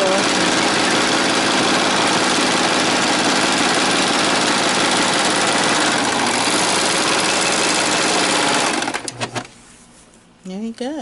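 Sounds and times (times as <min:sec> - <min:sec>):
serger sewing machine running: 0:00.0 - 0:09.5.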